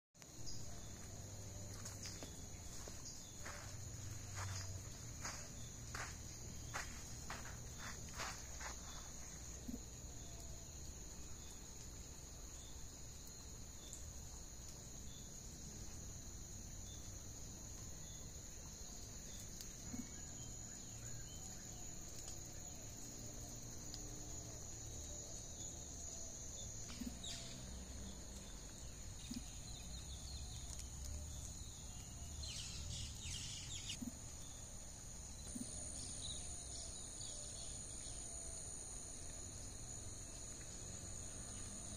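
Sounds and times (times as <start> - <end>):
insects chorus: 0.2 - 41.9.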